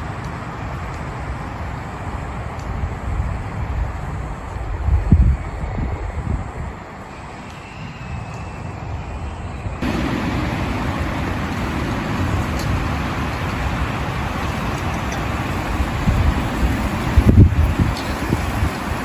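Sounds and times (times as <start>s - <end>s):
heavy rain falling: 0.0s - 9.2s, 9.8s - 19.0s.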